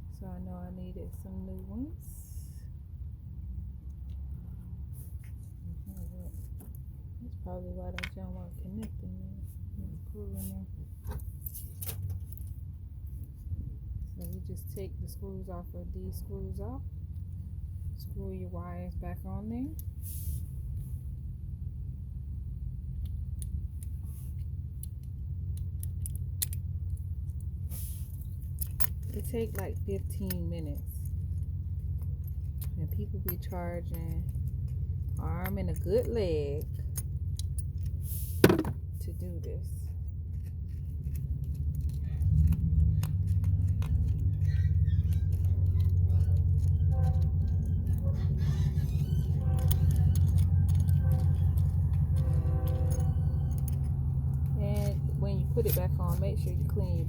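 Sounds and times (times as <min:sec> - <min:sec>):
low steady hum: 0:00.0 - 0:57.0
steady low rumble: 0:00.0 - 0:57.0.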